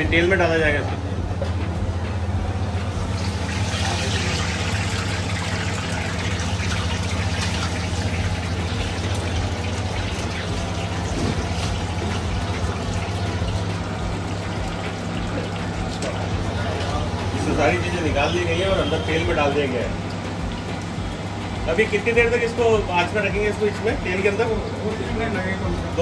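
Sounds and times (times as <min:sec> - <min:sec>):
constant low hum: 0:00.0 - 0:26.0
food deep-frying in hot oil: 0:01.9 - 0:26.0.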